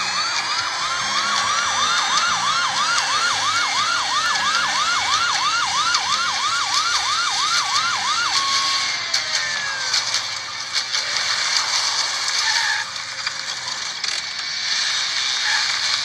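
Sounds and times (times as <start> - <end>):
fast yelping police siren: 0.0 - 12.9.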